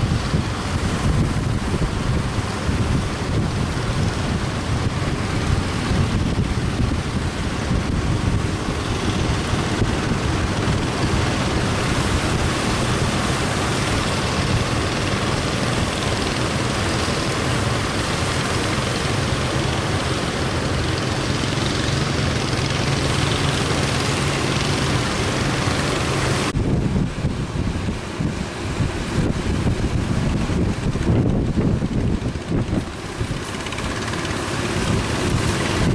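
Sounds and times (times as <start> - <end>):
surf crashing: 0.0 - 35.9
wind buffeting microphone: 0.0 - 35.9.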